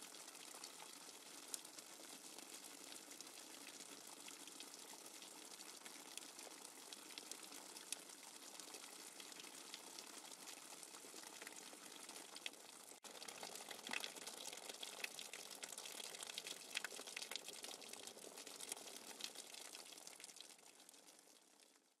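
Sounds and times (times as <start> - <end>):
rain falling on water: 0.0 - 22.0.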